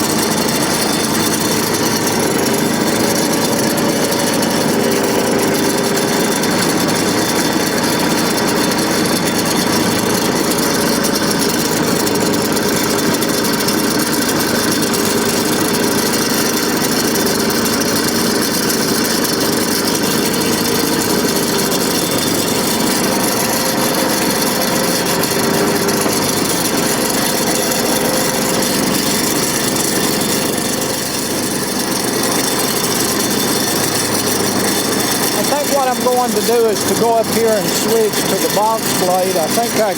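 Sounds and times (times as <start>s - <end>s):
blade spreading dirt: 0.0s - 39.9s
tractor engine running: 0.0s - 39.9s.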